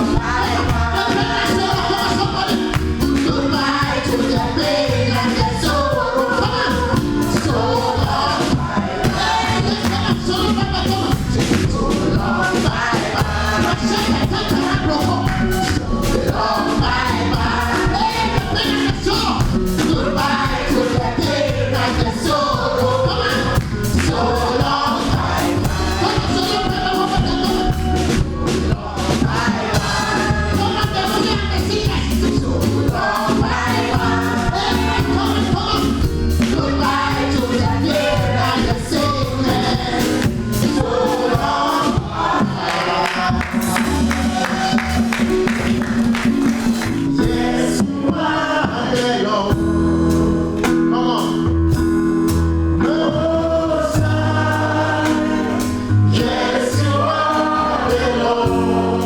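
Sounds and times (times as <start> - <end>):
band accompaniment with beat: 0.0 - 59.0
gospel choir singing: 0.0 - 59.0.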